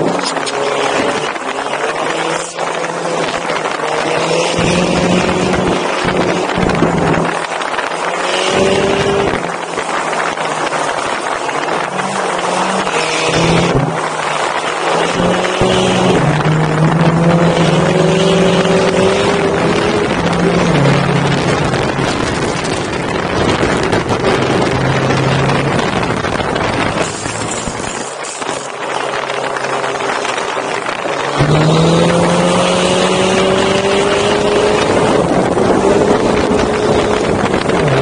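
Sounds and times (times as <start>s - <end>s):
car engine revving: 0.0s - 38.0s
wind and tyre noise: 0.0s - 38.0s.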